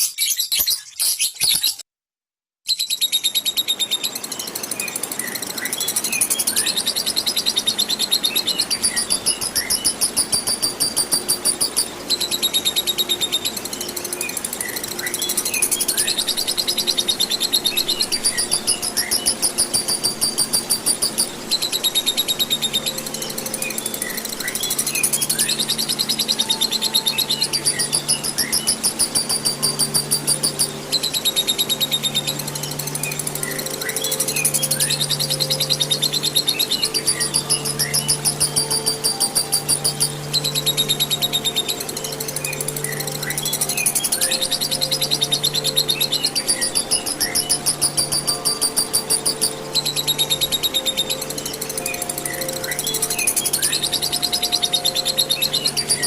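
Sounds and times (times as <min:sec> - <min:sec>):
bird chattering trill: 0:04.7 - 0:56.0.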